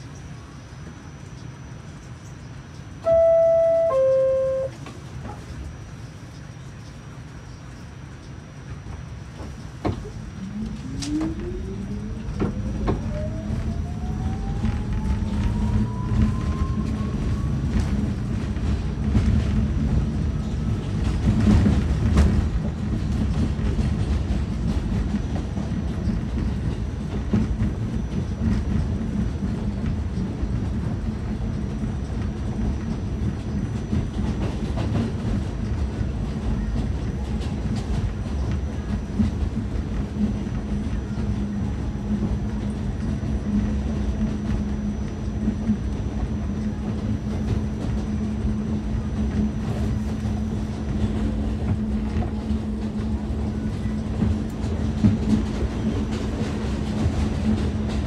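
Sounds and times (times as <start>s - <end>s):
subway car rumble: 0.0s - 58.0s.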